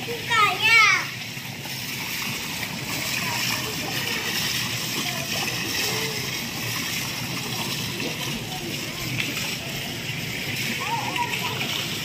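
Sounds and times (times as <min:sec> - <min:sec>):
pool water splashing: 0:00.0 - 0:12.0
faint voices: 0:02.4 - 0:12.0.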